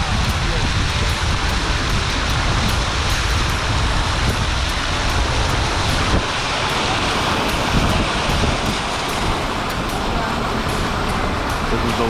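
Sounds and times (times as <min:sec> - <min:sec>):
water spraying against vehicle: 0:00.0 - 0:12.0.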